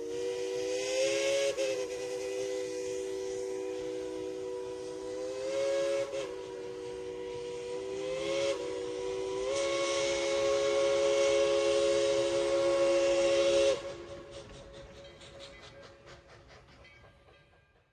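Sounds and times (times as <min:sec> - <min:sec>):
steam locomotive whistle: 0:00.0 - 0:17.1.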